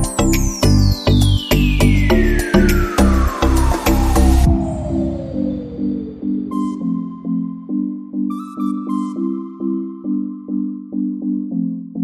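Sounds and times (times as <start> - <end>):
electronic synthesizer music: 0.0 - 12.0.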